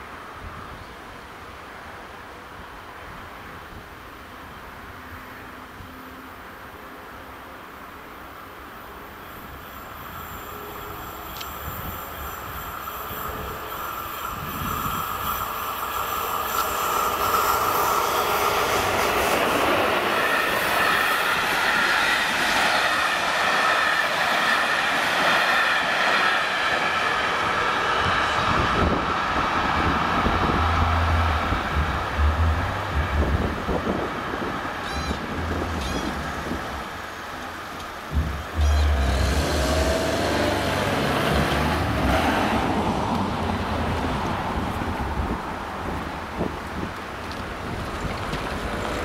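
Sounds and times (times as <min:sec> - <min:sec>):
train wheels on rails: 0:08.2 - 0:49.0.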